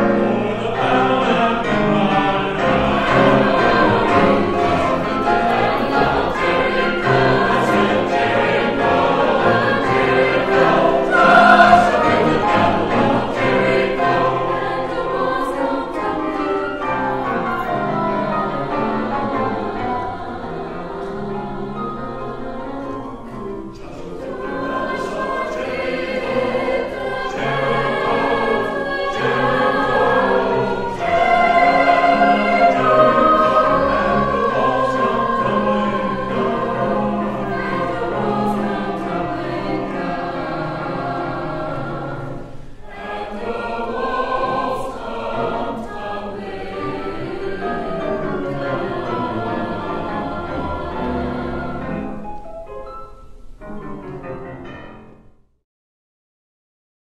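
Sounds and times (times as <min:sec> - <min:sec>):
choir singing sacred piece: 0:00.0 - 0:55.3.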